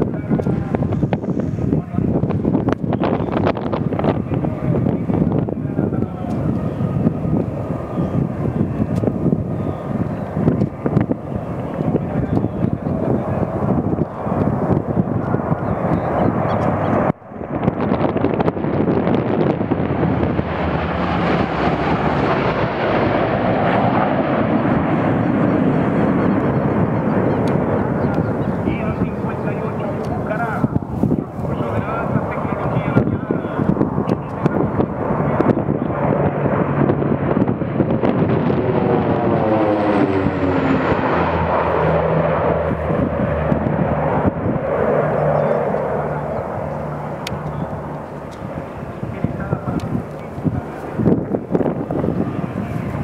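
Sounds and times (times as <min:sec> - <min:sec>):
aircraft flying past: 0:00.0 - 0:53.0.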